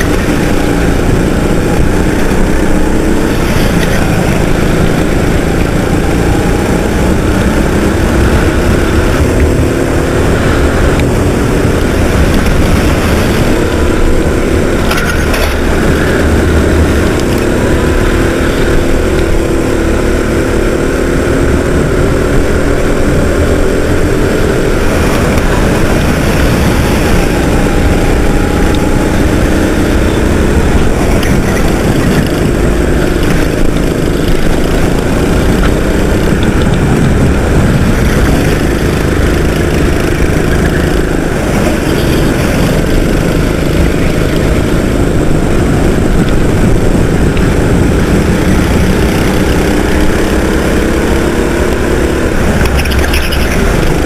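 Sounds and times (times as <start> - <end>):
constant rushing noise: 0.0 - 54.0
go-kart engine revving: 0.0 - 54.0.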